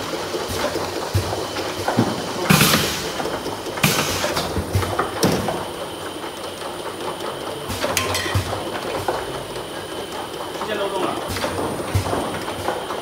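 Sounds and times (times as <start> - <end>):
bottling machine clatter: 0.0 - 13.0.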